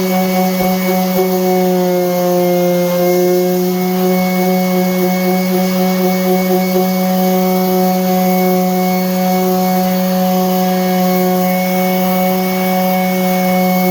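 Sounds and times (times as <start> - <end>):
electric sander on wood: 0.0 - 13.9.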